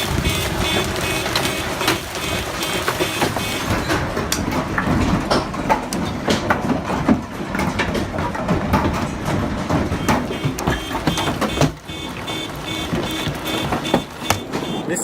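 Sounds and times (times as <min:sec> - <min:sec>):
hailstones hitting hard surfaces: 0:00.0 - 0:15.0.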